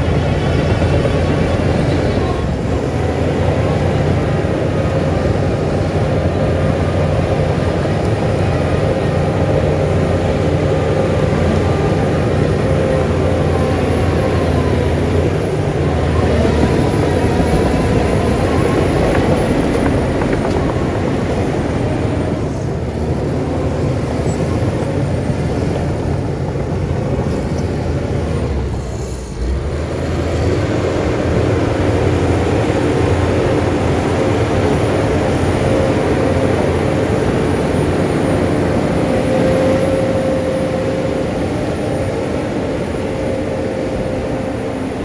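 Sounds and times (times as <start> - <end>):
bulldozer diesel engine under load: 0.0 - 45.0.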